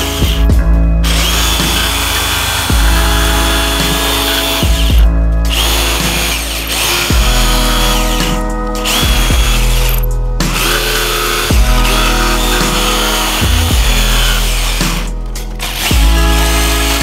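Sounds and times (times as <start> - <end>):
background music: 0.0 - 17.0
jigsaw cutting plywood: 0.0 - 17.0.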